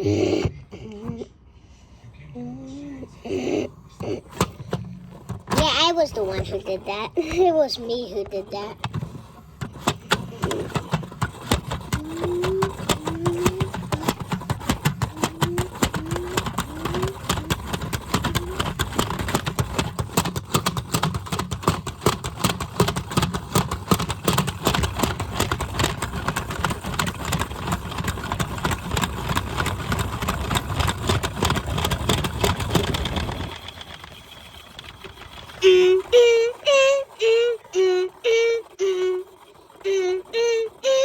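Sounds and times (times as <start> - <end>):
washing machine rattling and knocking: 4.0 - 37.6.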